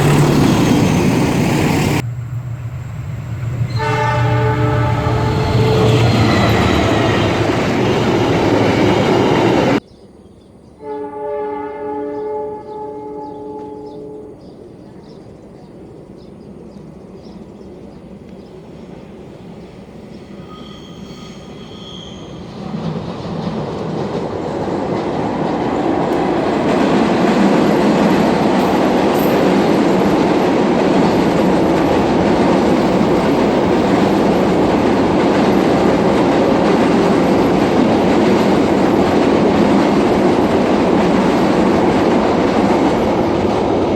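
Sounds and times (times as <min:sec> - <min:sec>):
train passing on rails: 0:00.0 - 0:09.8, 0:10.8 - 0:43.9.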